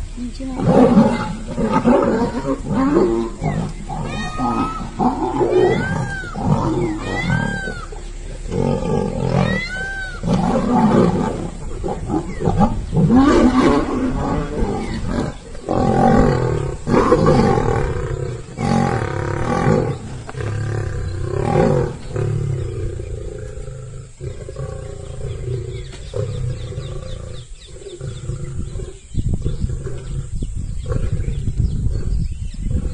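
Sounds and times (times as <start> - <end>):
lions roaring and growling: 0.4 - 32.9.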